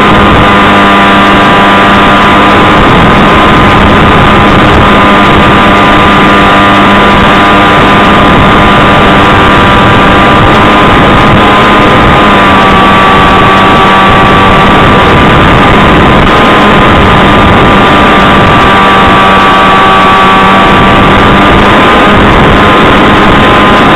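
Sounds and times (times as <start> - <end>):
electric motor and propeller whine: 0.0 - 23.9
wind rush: 0.0 - 23.9.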